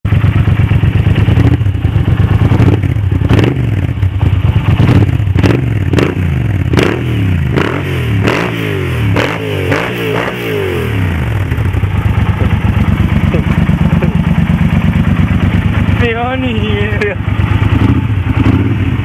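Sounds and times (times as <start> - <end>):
motorcycle engine revving: 0.1 - 19.0.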